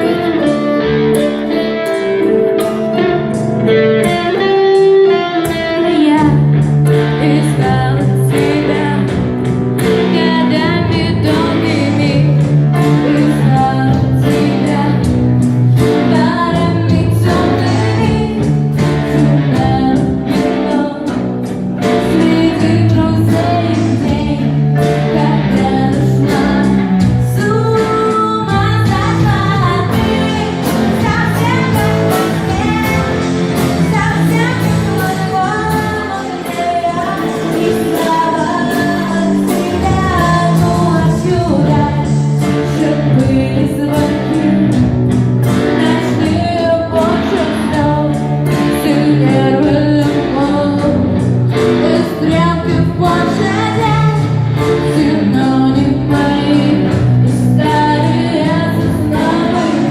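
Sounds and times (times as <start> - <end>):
woman singing: 0.0 - 0.6, 4.1 - 59.9
guitar accompaniment: 0.0 - 59.9.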